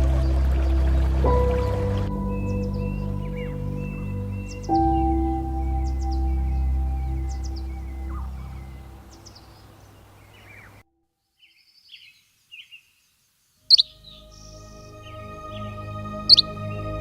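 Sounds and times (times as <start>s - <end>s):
ambient music: 0.0s - 10.8s, 13.7s - 17.0s
bird chirps: 0.0s - 17.0s.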